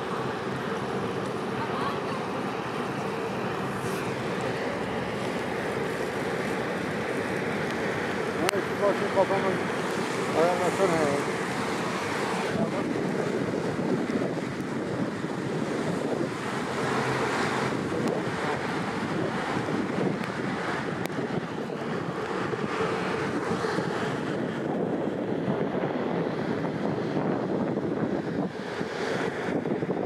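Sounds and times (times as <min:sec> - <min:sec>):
waves and wake water rushing: 0:00.0 - 0:30.0
wind buffeting microphone: 0:00.0 - 0:30.0.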